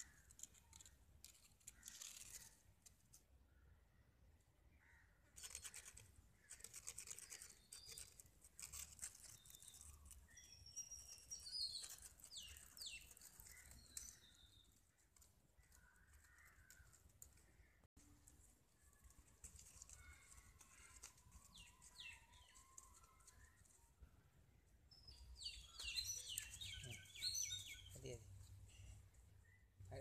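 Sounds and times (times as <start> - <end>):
stick scratching over dry dirt: 0.0 - 3.2, 5.4 - 23.8, 25.1 - 27.9.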